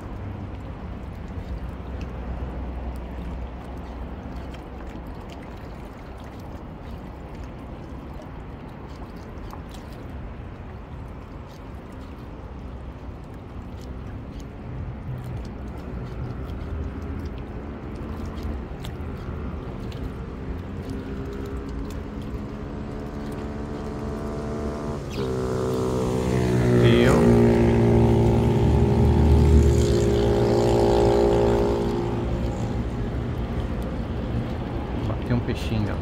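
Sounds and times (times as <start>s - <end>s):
motorboat engine humming: 0.0s - 36.0s
wind and water rumble: 0.0s - 36.0s.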